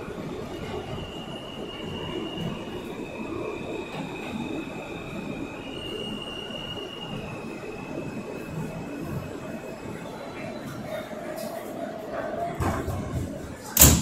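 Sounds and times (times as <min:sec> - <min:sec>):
subway wheels rumbling on track: 0:00.0 - 0:14.0.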